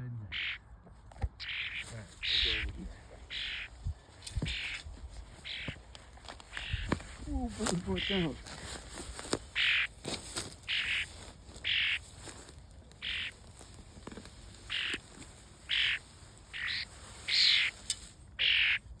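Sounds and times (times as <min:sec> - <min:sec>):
bird calling: 0:00.0 - 0:13.7, 0:14.4 - 0:19.0.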